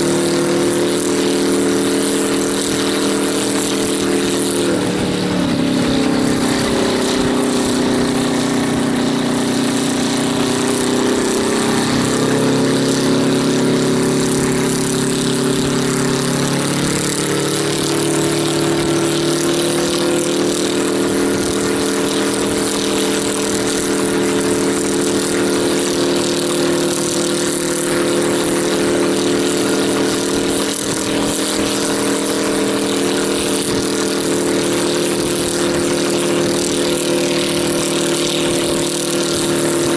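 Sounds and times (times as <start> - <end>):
helicopter engine running: 0.0 - 39.9.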